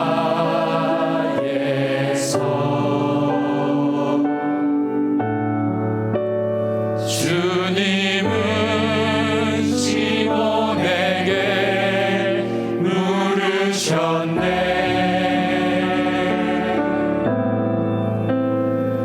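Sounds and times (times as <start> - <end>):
keyboard chords: 0.0 - 19.0.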